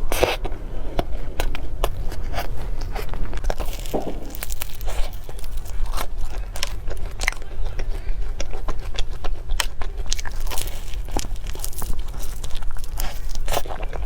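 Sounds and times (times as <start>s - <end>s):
chewing and wet mouth sounds: 0.0s - 14.0s.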